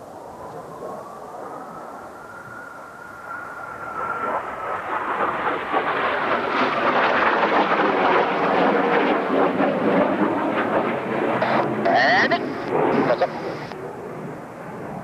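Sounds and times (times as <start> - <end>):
jet engine whine: 0.0 - 15.0
jet roar overhead: 0.0 - 15.0.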